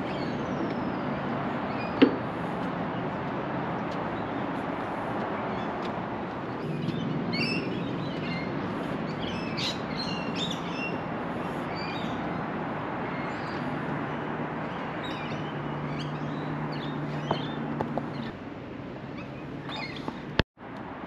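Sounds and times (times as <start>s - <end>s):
birds chirping: 0.0s - 18.4s, 19.0s - 20.4s.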